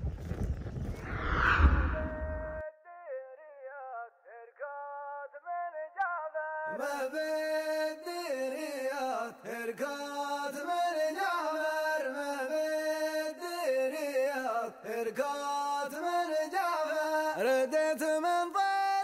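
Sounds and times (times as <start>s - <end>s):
man singing chant-like song: 2.4s - 19.0s.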